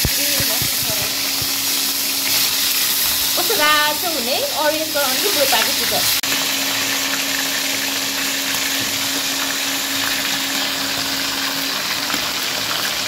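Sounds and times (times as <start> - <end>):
water boiling in saucepan: 0.0 - 13.0.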